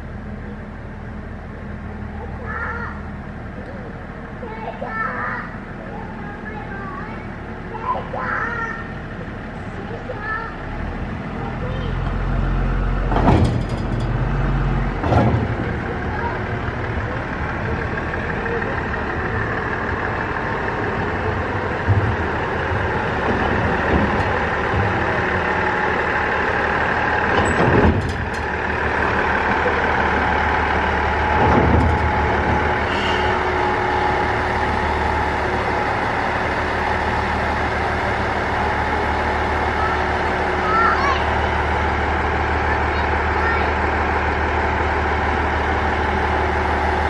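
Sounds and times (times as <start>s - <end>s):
diesel railcar engine idling: 0.0s - 47.0s.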